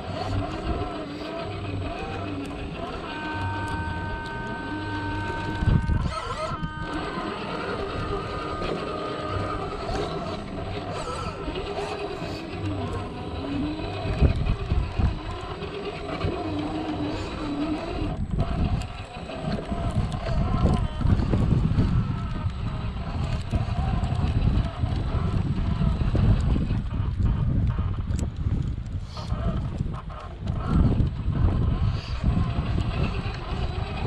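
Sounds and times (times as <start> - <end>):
electric motor whining: 0.0 - 34.0.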